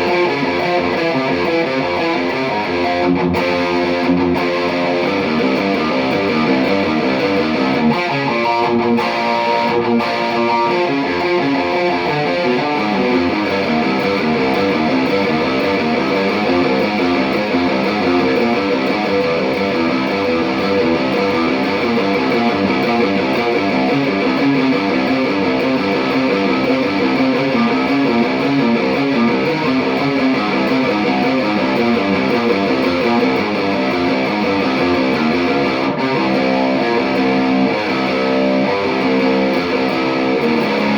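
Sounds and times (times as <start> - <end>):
electric guitar fast riffing: 0.0 - 40.9.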